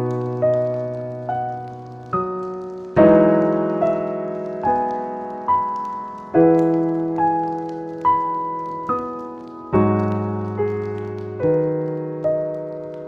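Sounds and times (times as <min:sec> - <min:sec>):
fireplace crackling: 0:00.0 - 0:13.0
slow solo piano: 0:00.0 - 0:13.0.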